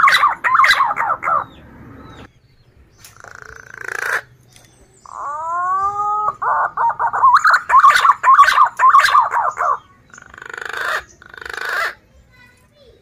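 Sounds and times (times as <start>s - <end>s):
pigeon whistling song: 0.0s - 2.3s, 3.0s - 12.0s.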